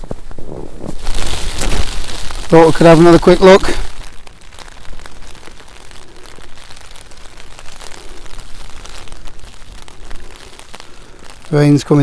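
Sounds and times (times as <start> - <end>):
low wind rumble: 0.0 - 12.0
rain pattering on tarp: 0.0 - 12.0.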